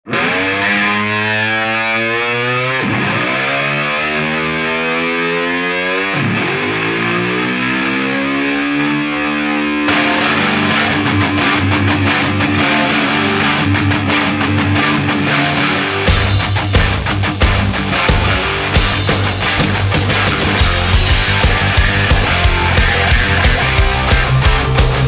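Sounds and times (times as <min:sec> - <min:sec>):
distorted electric guitar chord: 0:00.0 - 0:25.0
rock band playing: 0:00.0 - 0:25.0.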